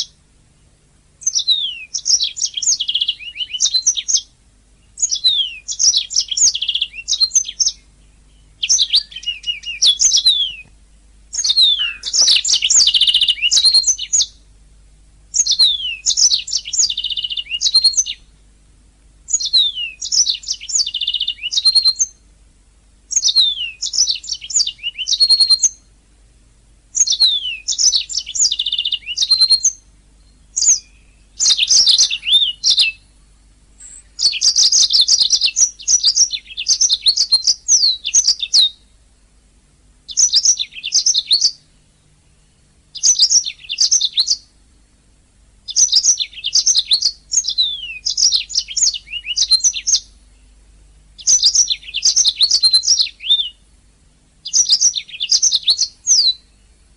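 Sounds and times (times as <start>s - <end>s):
canary singing: 0.0s - 0.2s, 1.2s - 14.5s, 15.3s - 18.4s, 19.3s - 22.2s, 23.1s - 26.0s, 26.9s - 39.0s, 40.0s - 44.6s, 45.6s - 50.6s, 51.2s - 53.7s, 54.4s - 56.9s.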